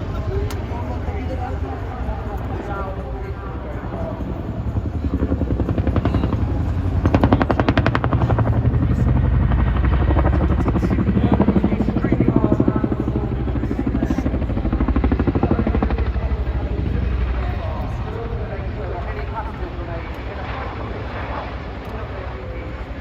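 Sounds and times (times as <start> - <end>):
deep low rumble: 0.0 - 23.0
helicopter rotor chopping: 0.0 - 23.0.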